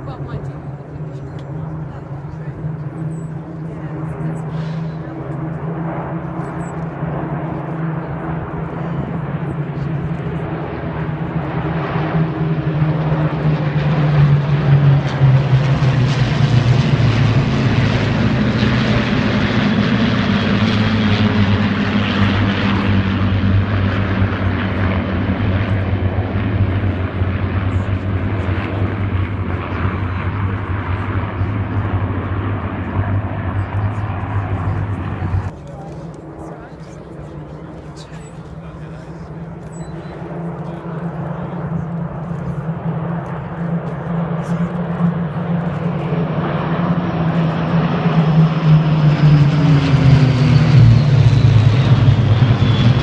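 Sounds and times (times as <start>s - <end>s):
propeller aircraft engine drone: 0.0s - 53.0s.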